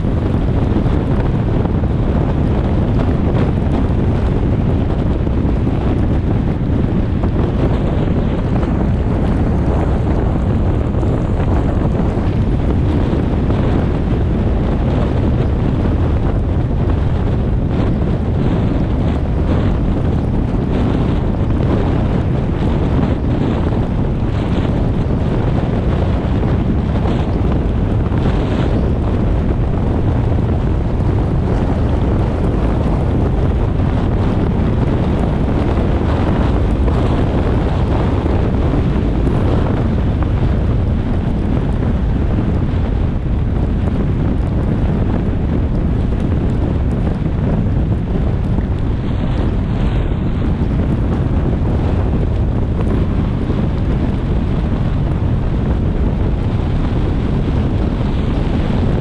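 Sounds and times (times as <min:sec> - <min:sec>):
car tyre noise on wet road: 0:00.0 - 0:59.0
wind buffeting microphone: 0:00.0 - 0:59.0.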